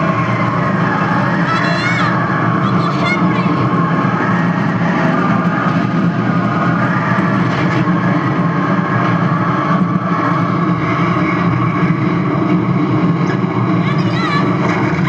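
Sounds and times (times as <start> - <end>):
storm wind droning rumble: 0.0 - 15.0.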